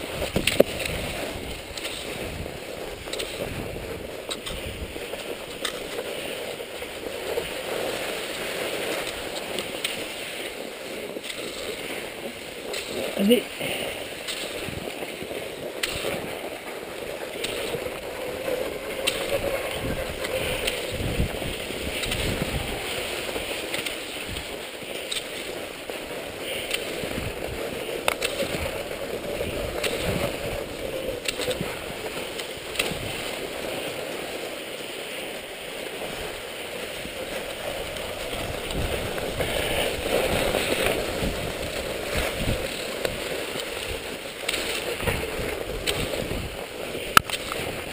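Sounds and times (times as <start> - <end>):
wind buffeting microphone: 0.0 - 34.2, 35.2 - 47.9
skis scraping over snow: 0.0 - 47.9.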